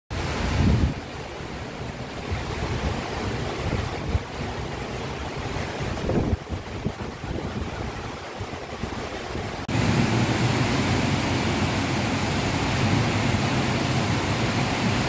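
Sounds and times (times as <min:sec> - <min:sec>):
heavy rain falling: 0:00.1 - 0:15.0
wind buffeting microphone: 0:00.2 - 0:15.0.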